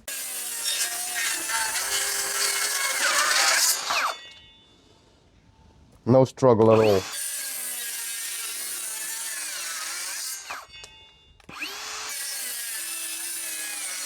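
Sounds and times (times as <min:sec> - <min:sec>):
circular saw cutting wood: 0:00.0 - 0:04.5, 0:06.6 - 0:14.0
saw blade winding down: 0:00.1 - 0:04.4, 0:06.7 - 0:14.0.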